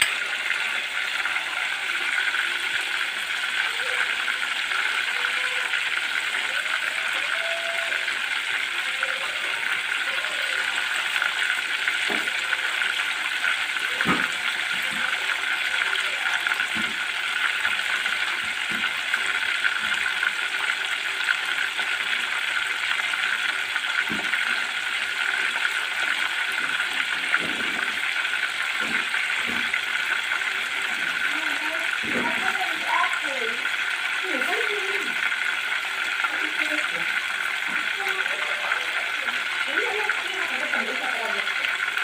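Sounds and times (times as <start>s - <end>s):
chicken sizzling in hot oil: 0.0s - 42.0s.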